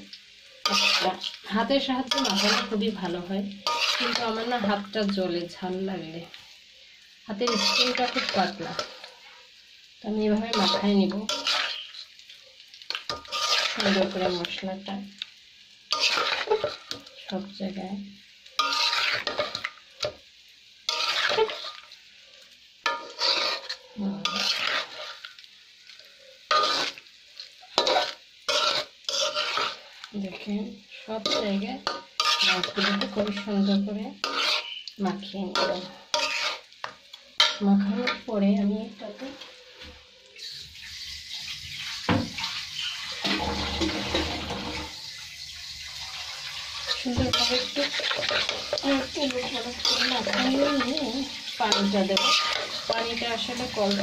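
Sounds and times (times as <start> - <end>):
spatula scraping in a pan: 0.5 - 6.6, 7.3 - 9.6, 10.4 - 14.8, 15.9 - 17.8, 18.5 - 38.3, 39.0 - 54.0.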